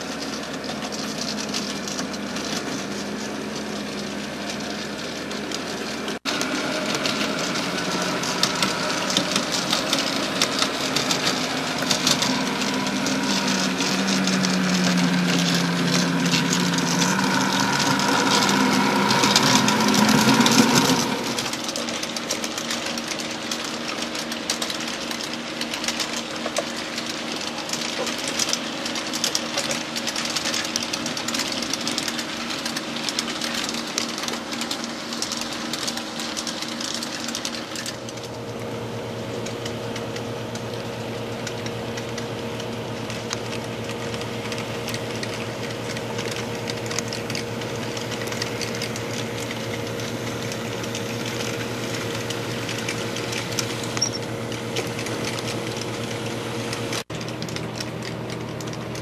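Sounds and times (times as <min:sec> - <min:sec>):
model train motors whirring: 0:00.0 - 0:59.0
wheels clicking over track: 0:00.0 - 0:59.0.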